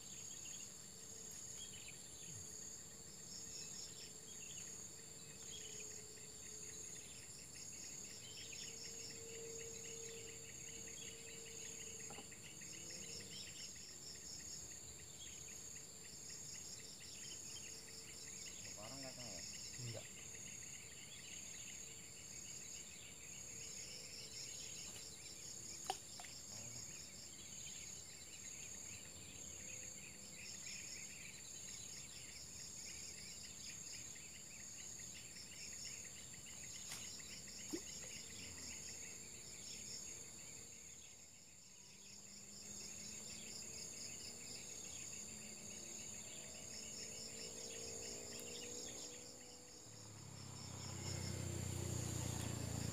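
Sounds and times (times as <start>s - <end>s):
insect chorus drone: 0.0s - 52.9s.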